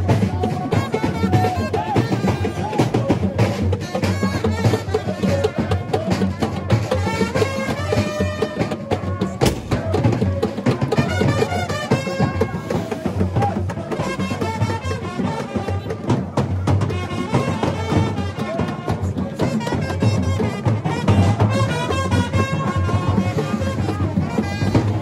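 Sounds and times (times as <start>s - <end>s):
traditional drum music: 0.0s - 25.0s
voices singing: 0.0s - 25.0s.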